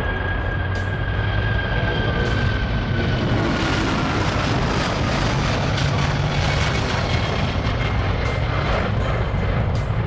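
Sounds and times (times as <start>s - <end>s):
jet engine whine: 0.0s - 10.0s
jet engines roaring: 0.0s - 10.0s.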